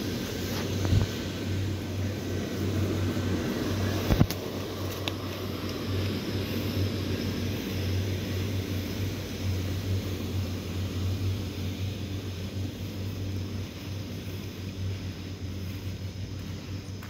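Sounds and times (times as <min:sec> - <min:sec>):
even hiss: 0:00.0 - 0:17.0
low motor drone: 0:00.0 - 0:17.0.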